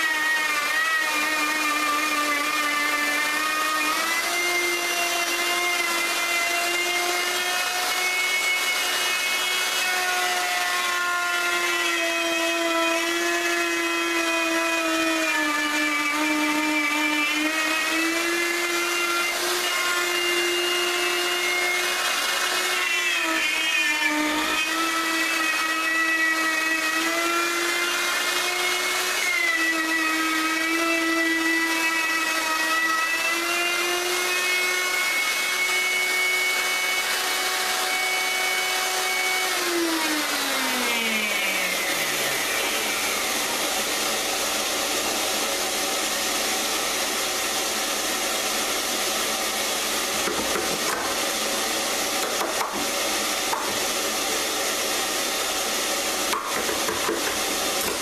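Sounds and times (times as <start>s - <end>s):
electric router whining: 0.0s - 58.0s.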